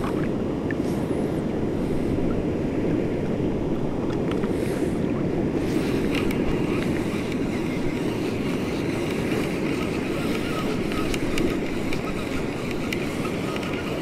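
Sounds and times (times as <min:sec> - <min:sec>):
sea water rushing: 0:00.0 - 0:14.0.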